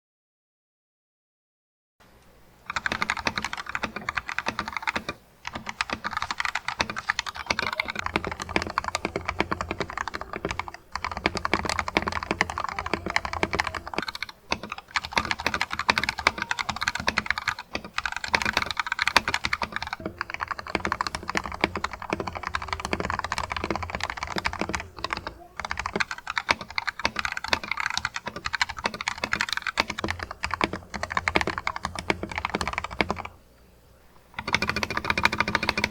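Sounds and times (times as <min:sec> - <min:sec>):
mechanical keyboard typing: 0:02.7 - 0:33.4, 0:34.4 - 0:35.9.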